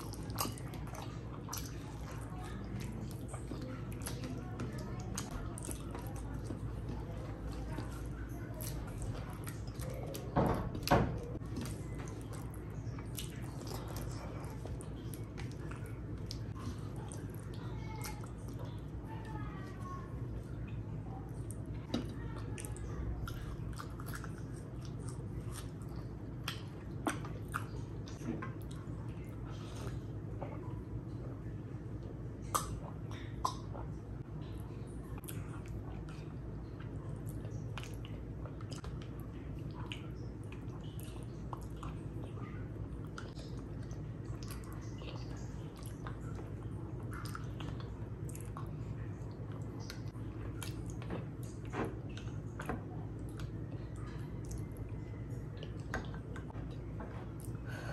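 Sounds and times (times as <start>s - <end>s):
close chewing mouth sounds: 0.0s - 30.9s, 32.0s - 57.8s.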